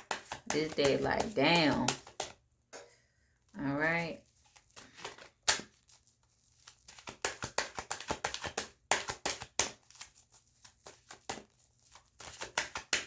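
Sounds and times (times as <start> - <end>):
cards being shuffled: 0.0 - 2.4, 4.3 - 13.0.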